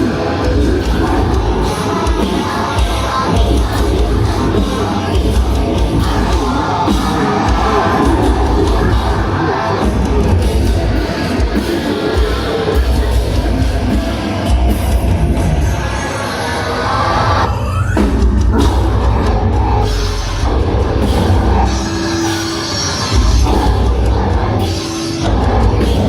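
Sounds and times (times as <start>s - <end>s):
heavy metal band playing live: 0.0s - 26.0s
vocals over metal: 0.0s - 26.0s.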